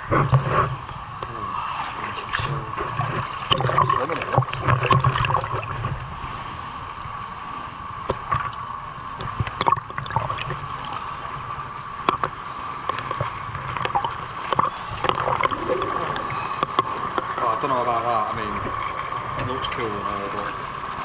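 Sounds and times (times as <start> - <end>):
pool water sloshing and splashing: 0.0 - 21.0.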